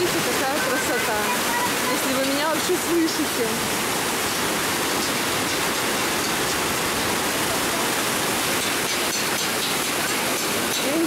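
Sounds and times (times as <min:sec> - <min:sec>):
waterfall rushing over boulders: 0:00.0 - 0:11.0.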